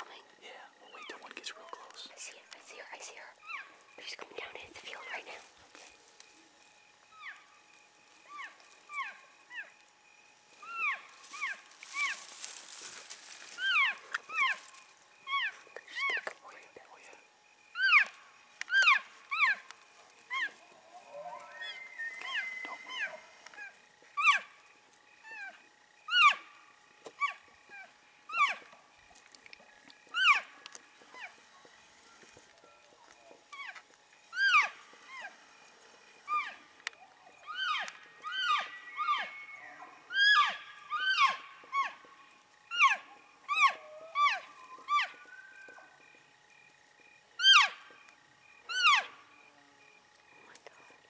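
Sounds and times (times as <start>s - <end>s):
elk chirping and mewing: 3.3s - 4.0s, 6.7s - 16.4s, 17.6s - 46.6s, 47.4s - 49.5s.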